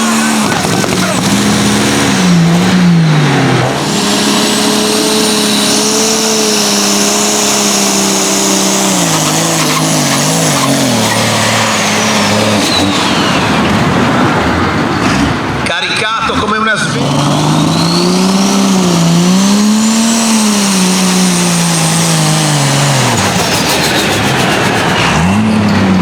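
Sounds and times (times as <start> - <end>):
tractor engine at full throttle: 0.0 - 26.0.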